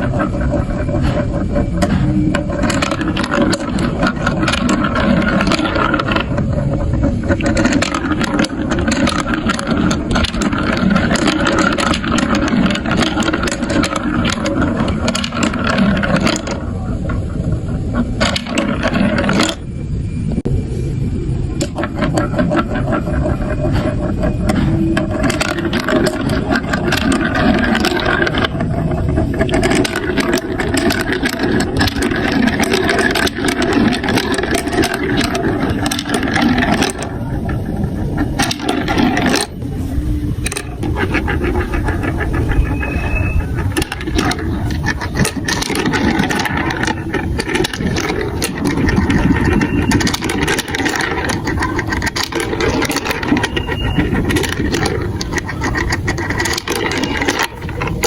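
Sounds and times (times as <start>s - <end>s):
marbles rolling down a plastic track: 0.0s - 19.7s, 21.4s - 58.0s.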